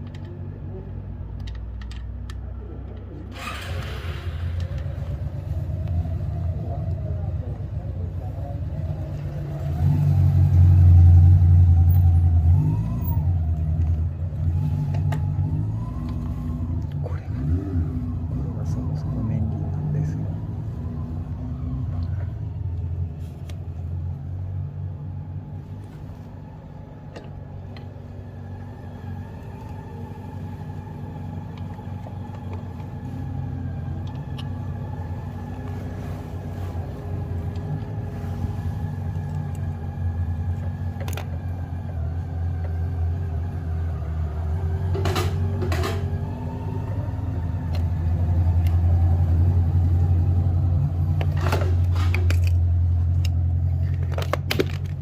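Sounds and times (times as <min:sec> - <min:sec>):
low engine-like hum: 0:00.0 - 0:55.0.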